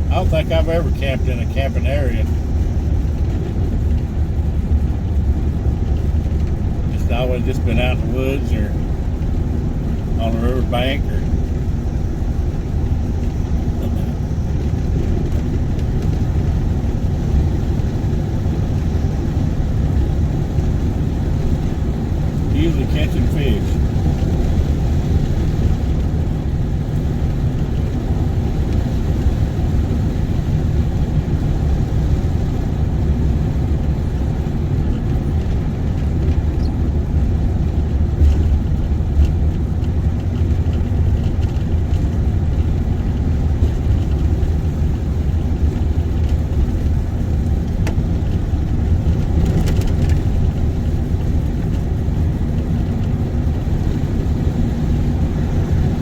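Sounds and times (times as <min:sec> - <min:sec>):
car engine and tyres on road: 0:00.0 - 0:56.0.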